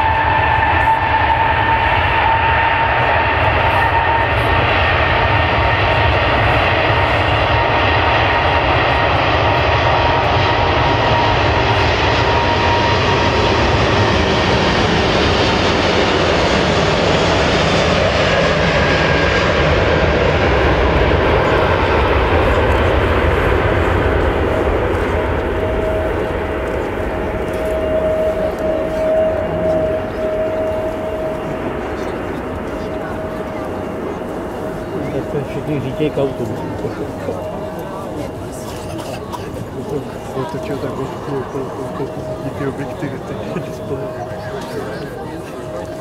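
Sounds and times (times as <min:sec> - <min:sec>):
jet engine roar: 0:00.0 - 0:46.0.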